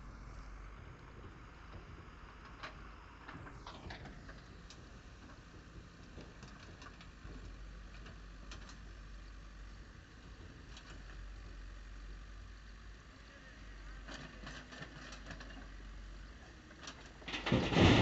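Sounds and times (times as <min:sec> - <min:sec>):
construction machinery engines rumbling: 0:00.0 - 0:18.0.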